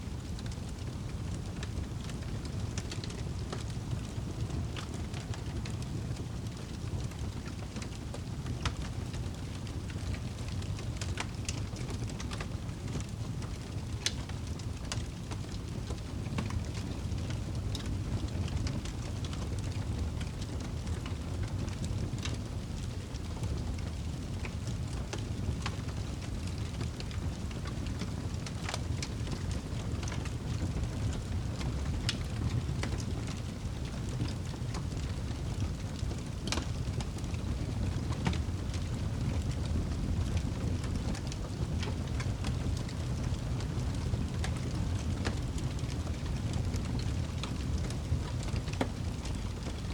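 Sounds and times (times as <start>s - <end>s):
campfire crackling and popping: 0.1s - 49.9s.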